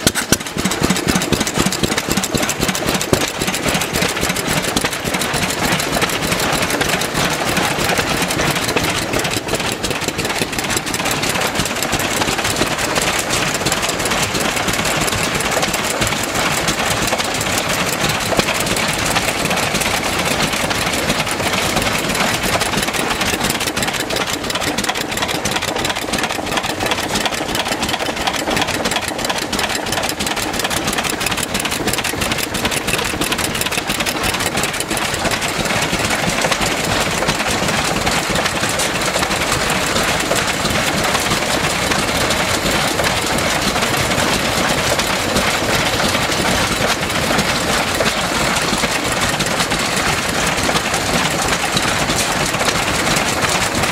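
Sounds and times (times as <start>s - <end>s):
flywheel engines running: 0.0s - 53.9s.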